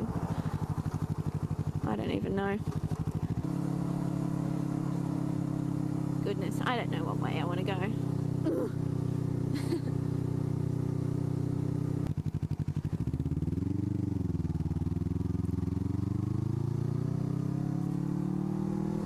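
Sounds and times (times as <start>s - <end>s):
motorcycle engine idling and accelerating: 0.0s - 19.0s.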